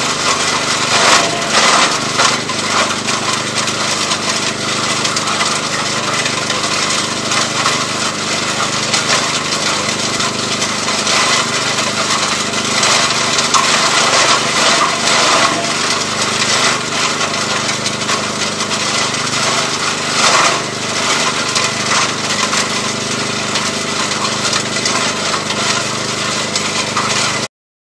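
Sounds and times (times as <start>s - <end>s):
wood chipper engine hum: 0.0s - 27.5s
wood chipper shredding wood: 0.0s - 27.5s.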